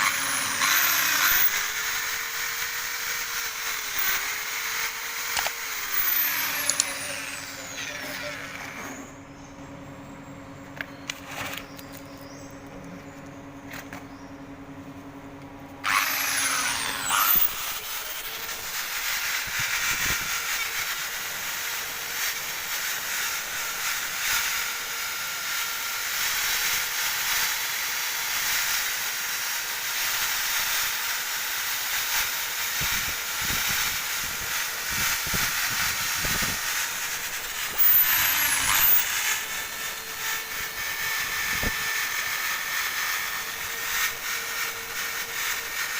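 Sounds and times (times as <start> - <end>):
drill wire brush scrubbing metal: 0.0 - 9.1, 15.8 - 45.9.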